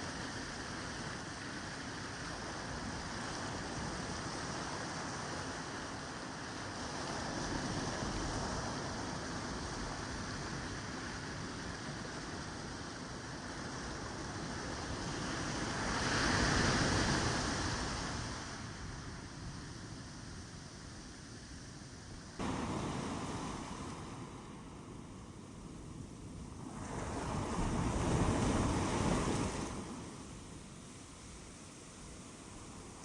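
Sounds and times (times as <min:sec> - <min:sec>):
waves breaking on a beach: 0:00.0 - 0:33.0.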